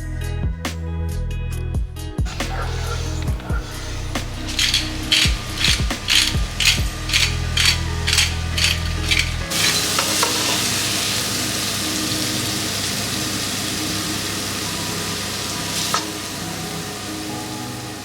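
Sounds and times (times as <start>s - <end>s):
soft background music: 1.6s - 18.0s.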